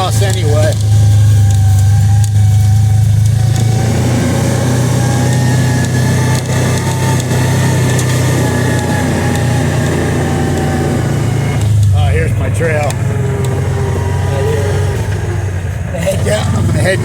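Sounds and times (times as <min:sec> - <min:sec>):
vehicle engine running steadily: 0:00.0 - 0:17.0.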